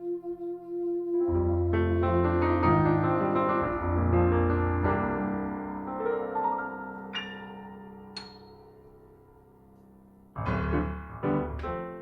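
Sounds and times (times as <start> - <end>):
piano chords and bass notes: 0.0 - 12.0.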